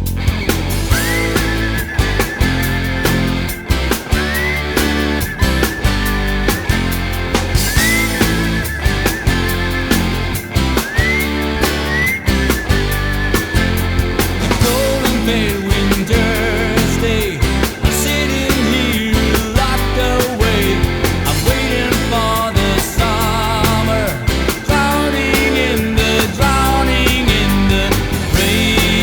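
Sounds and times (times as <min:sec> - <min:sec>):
bass line: 0:00.0 - 0:29.0
drum beat: 0:00.0 - 0:29.0
wavering lead melody: 0:00.7 - 0:29.0.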